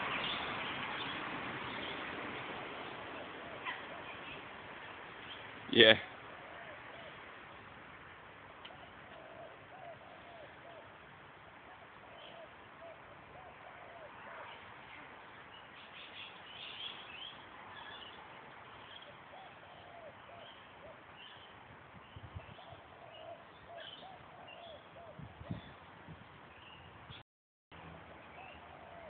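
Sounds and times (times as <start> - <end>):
birds calling and chirping: 0.0 - 7.8, 8.6 - 27.2, 27.8 - 29.0.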